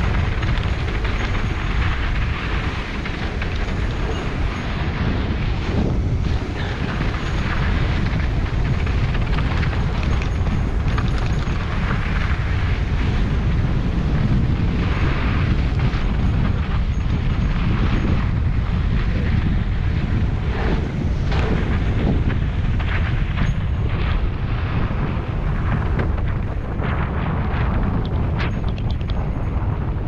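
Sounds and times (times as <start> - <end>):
bike tyres crunching on dirt: 0.0 - 29.9
wind buffeting microphone: 0.0 - 30.0.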